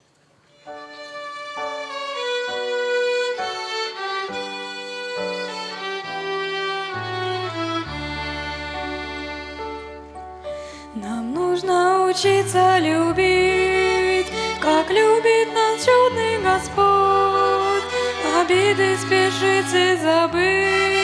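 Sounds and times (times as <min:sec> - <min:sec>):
violin ensemble slow melody: 0:00.4 - 0:21.0.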